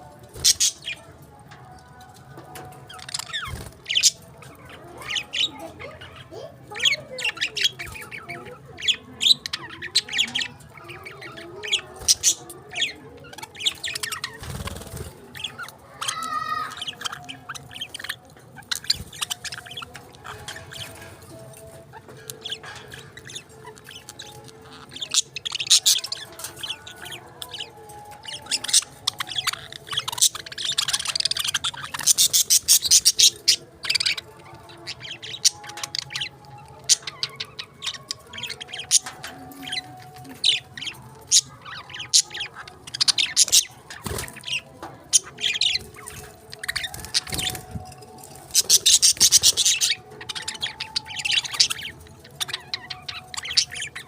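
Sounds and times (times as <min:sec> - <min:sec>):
budgies chirping and chattering: 0:00.0 - 0:54.0.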